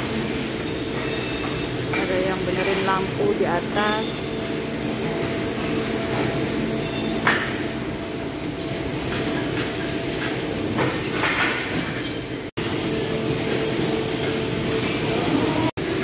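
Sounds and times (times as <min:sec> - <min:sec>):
factory machinery drone: 0:00.0 - 0:16.0.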